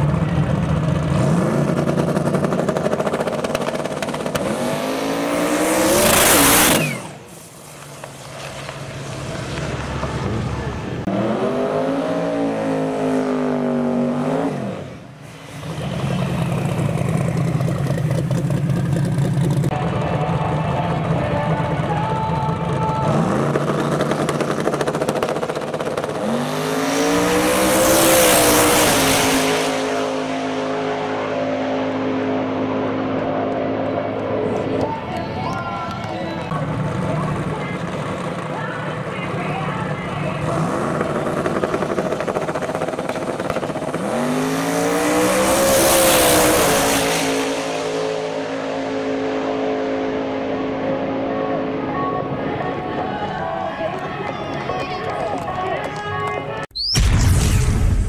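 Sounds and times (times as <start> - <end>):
drag car engine accelerating: 0.0 - 54.1.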